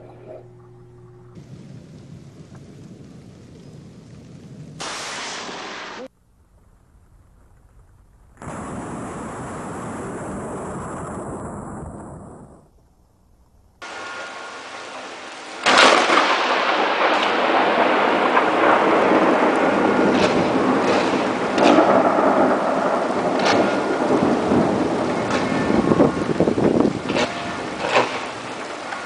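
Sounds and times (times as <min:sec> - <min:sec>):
rolling thunder rumble: 0:00.0 - 0:29.0
rain: 0:01.3 - 0:12.7, 0:13.8 - 0:29.0
sharp thunder cracks: 0:01.4 - 0:06.1, 0:07.1 - 0:12.7, 0:13.8 - 0:29.0.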